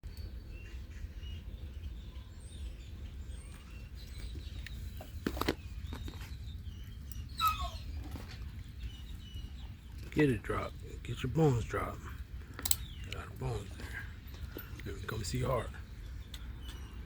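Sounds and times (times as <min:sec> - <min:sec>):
low wind rumble: 0:00.0 - 0:17.0
small birds chirping: 0:00.0 - 0:17.0.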